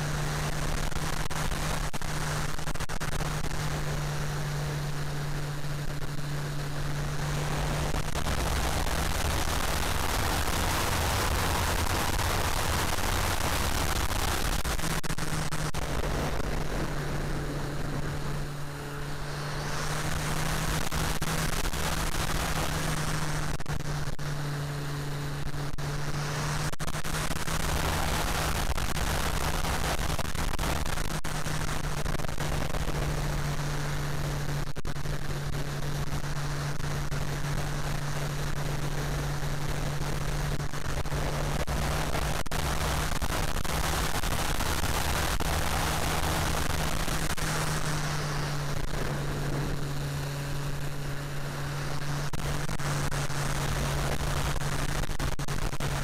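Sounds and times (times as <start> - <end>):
electric motor and propeller hum: 0.0 - 56.0
wind rushing over microphone: 0.0 - 56.0.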